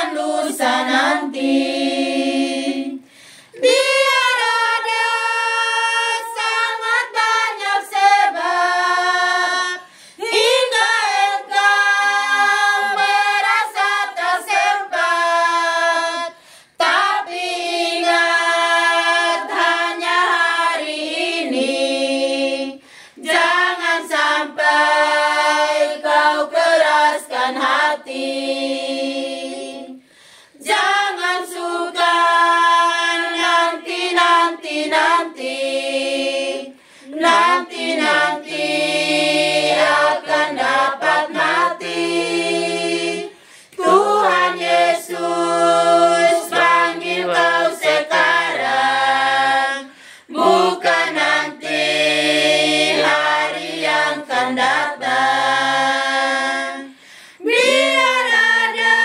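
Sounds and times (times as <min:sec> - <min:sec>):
women singing a hymn unaccompanied: 0:00.0 - 0:59.0.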